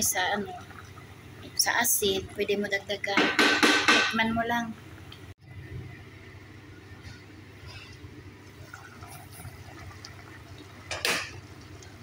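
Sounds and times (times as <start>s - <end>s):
pot bubbling at a boil: 0.0s - 12.0s.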